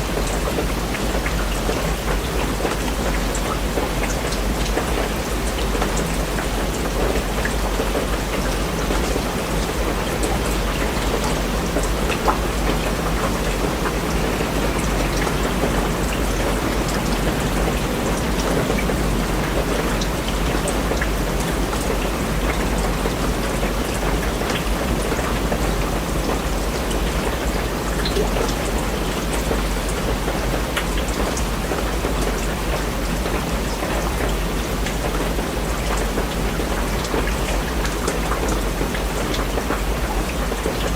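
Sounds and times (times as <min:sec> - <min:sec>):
raindrops tapping: 0:00.0 - 0:40.9.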